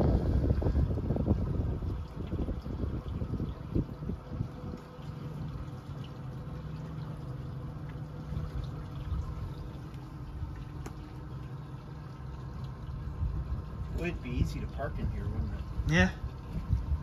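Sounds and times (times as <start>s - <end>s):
boat motor running: 0.0s - 17.0s
water sloshing against hull: 0.0s - 17.0s.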